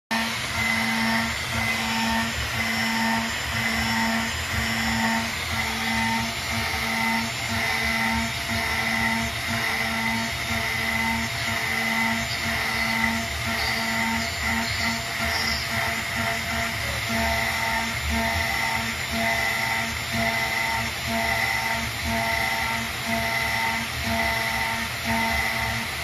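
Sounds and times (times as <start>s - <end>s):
milling machine motor whine: 0.1s - 26.0s
pulsing low hum: 0.1s - 26.0s.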